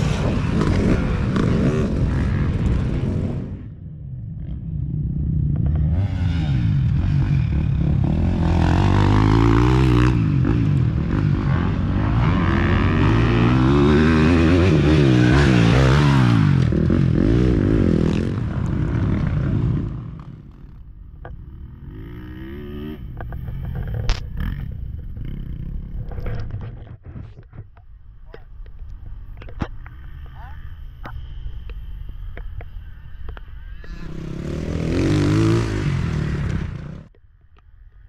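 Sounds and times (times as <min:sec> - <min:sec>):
dirt bike engines revving: 0:00.0 - 0:37.2.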